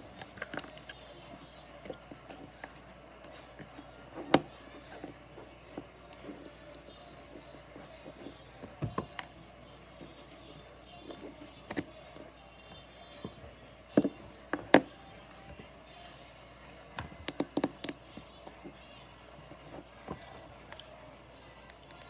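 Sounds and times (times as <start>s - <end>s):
faint background music: 0.0s - 22.0s.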